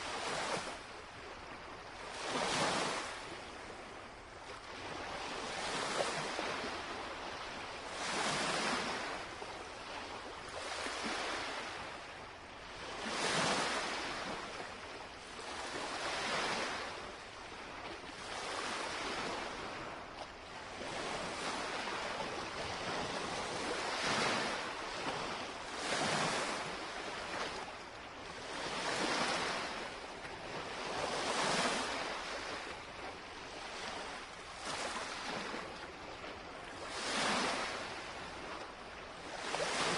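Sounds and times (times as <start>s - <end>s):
lake waves lapping on shore: 0.0s - 39.9s.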